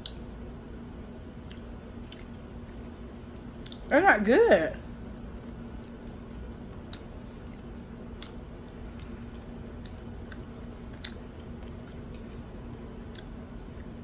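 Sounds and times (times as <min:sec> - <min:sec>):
steady low hum: 0:00.0 - 0:14.0
person chewing crunchy food: 0:01.2 - 0:03.9, 0:05.3 - 0:14.0.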